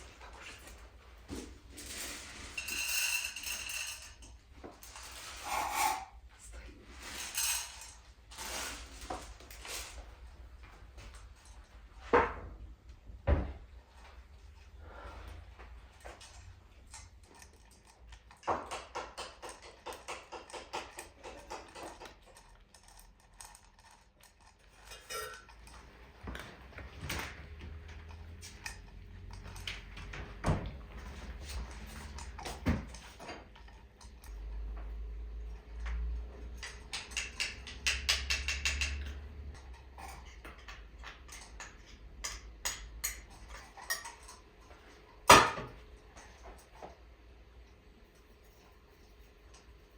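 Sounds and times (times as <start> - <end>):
utensils and dishes clinking: 0.0 - 10.0, 16.0 - 46.8.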